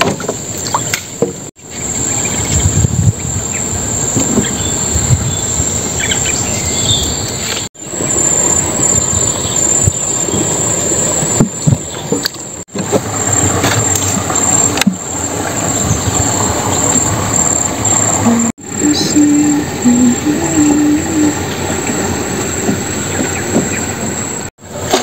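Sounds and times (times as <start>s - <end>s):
insects buzzing: 0.2s - 24.5s
low rumbling noise: 1.6s - 24.5s.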